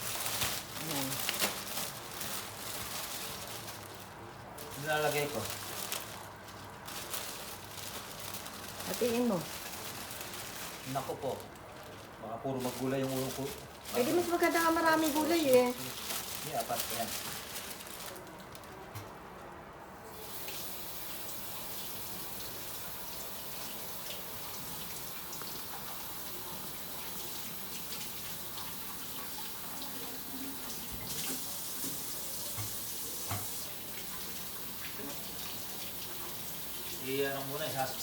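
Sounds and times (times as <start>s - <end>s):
water running in a kitchen: 0.0s - 18.6s, 20.0s - 38.0s.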